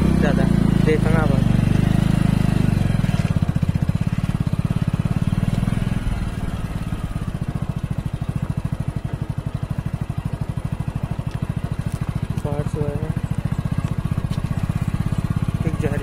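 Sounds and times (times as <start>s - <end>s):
vehicle engine chugging at low revs: 0.0s - 16.0s.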